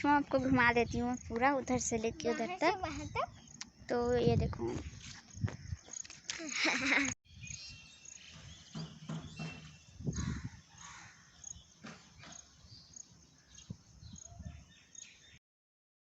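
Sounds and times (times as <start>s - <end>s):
insects chirping: 0.0s - 15.2s.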